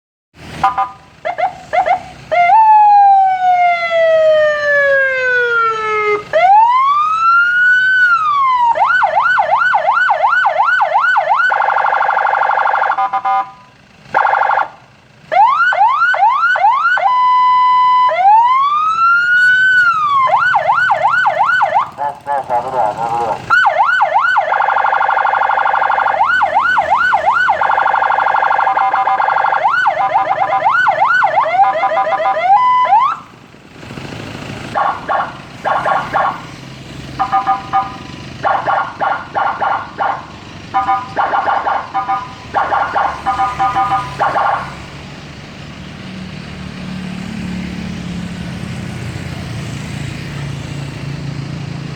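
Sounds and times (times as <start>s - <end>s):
electronic siren: 0.6s - 33.3s, 34.8s - 36.6s, 37.2s - 44.9s.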